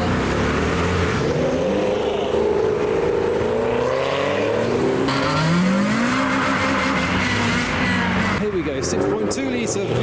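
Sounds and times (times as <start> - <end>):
car engine revving: 0.0 - 10.0
cars driving away: 0.0 - 10.0.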